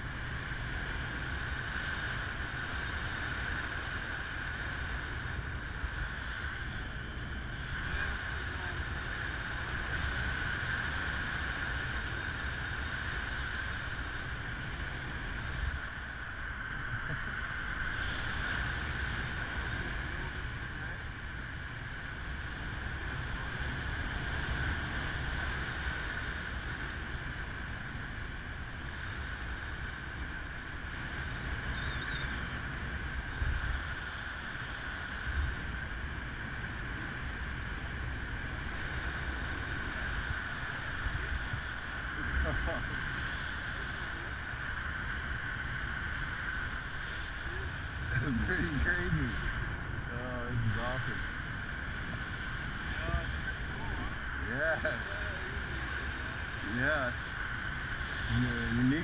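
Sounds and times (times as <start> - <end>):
wind buffeting camera microphone: 0.0 - 59.0
wind gusts: 0.0 - 59.0.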